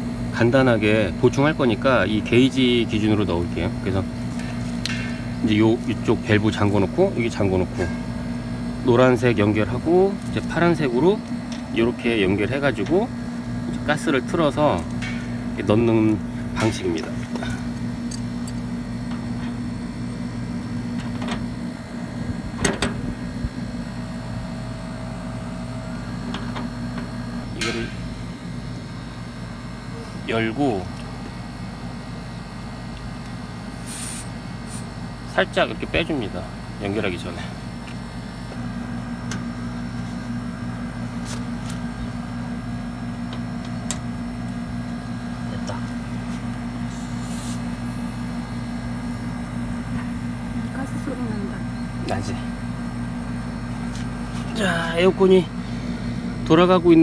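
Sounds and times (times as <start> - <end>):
air conditioner unit humming: 0.0 - 57.0.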